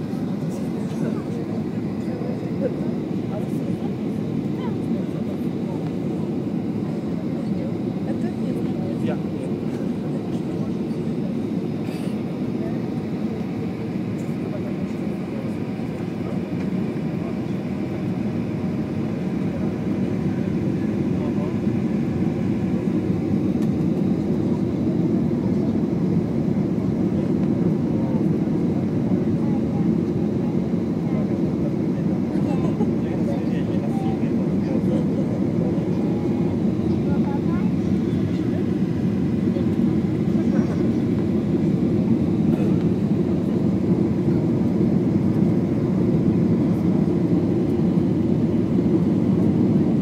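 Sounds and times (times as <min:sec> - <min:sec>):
airliner cabin engine rumble: 0:00.0 - 0:50.0.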